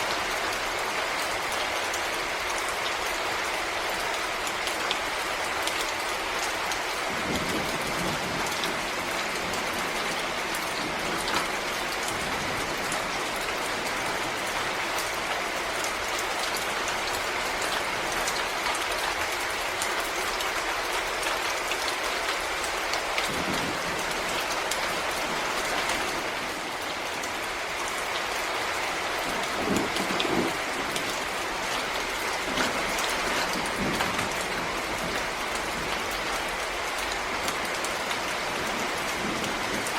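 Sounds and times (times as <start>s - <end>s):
patter of raindrops: 0.0s - 39.9s
steady rain hiss: 0.0s - 39.9s.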